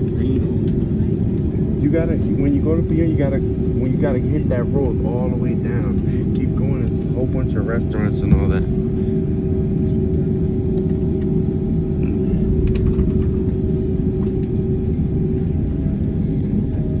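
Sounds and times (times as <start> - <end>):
aircraft cabin low rumble: 0.0 - 17.0
steady hum: 0.0 - 17.0.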